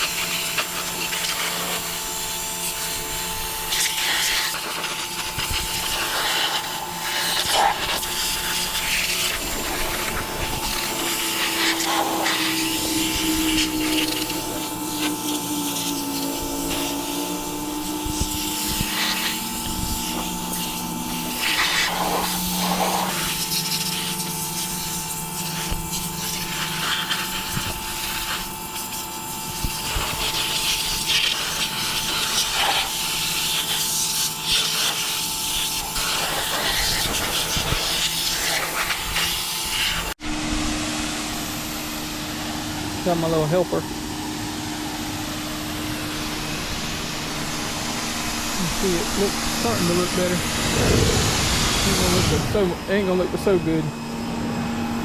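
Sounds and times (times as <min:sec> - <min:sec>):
pressure washer spraying water: 0:00.0 - 0:55.0.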